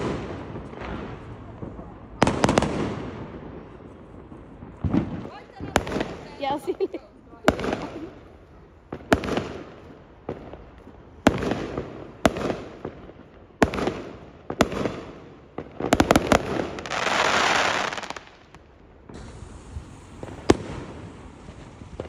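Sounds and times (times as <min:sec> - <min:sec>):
fireworks bangs: 0:00.0 - 0:22.0
fireworks hissing crackle: 0:00.0 - 0:22.0.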